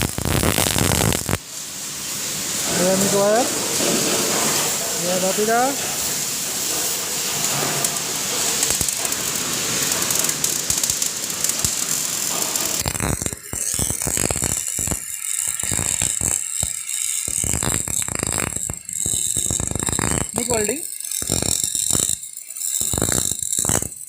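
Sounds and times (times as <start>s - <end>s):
welding arc crackling hiss: 0.0s - 24.0s.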